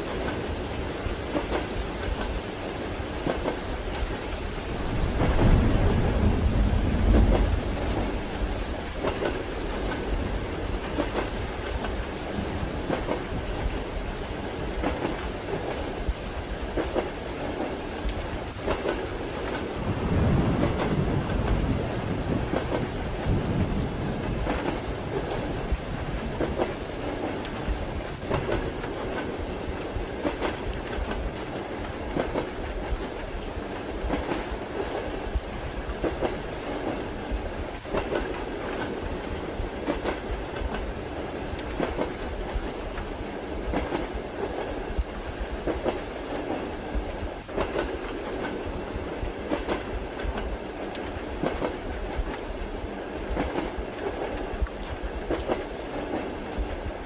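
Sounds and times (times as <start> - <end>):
train wheels clacking over rail joints: 0.0 - 4.2, 5.1 - 14.0, 16.7 - 21.7, 24.2 - 35.3, 36.0 - 39.0, 39.6 - 42.8, 43.7 - 44.8, 45.4 - 52.4, 53.3 - 56.7
train rumble: 0.0 - 57.0.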